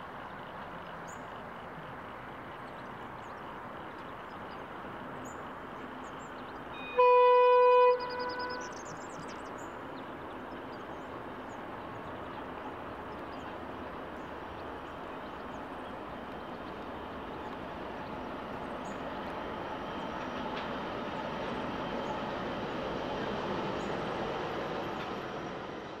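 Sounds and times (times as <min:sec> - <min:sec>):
diesel locomotives rumbling: 0:00.0 - 0:26.0.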